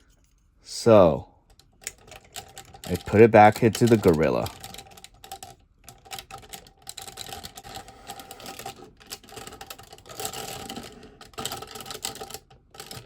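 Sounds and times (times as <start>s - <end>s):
plastic toy parts clicking: 1.5s - 13.0s.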